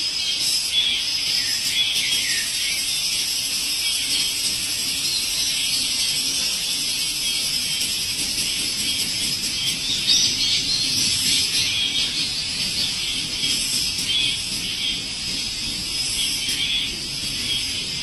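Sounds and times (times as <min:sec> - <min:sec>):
small birds chirping: 0:00.0 - 0:18.0
steady hiss: 0:00.0 - 0:18.0.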